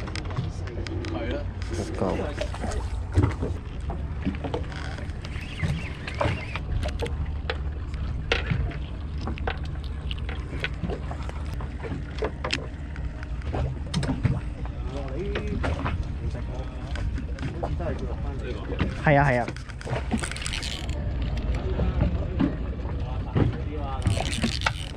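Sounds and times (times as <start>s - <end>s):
boat low rumble: 0.0s - 24.9s.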